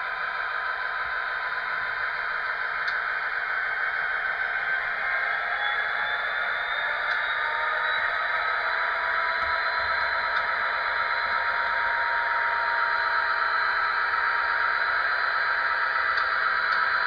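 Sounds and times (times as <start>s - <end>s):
steady high whine: 0.0s - 17.0s.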